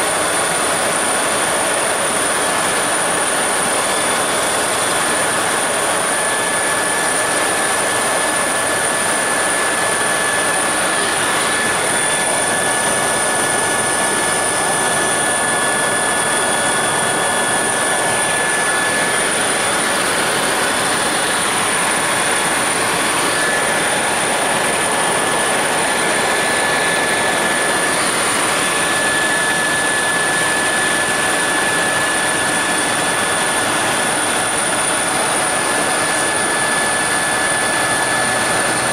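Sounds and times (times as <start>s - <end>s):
helicopter cabin drone: 0.0s - 38.9s
high-pitched whines: 0.1s - 38.9s.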